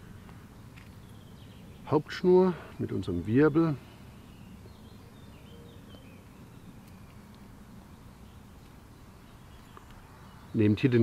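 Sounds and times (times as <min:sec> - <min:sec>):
faint low background noise: 0:00.0 - 0:11.0.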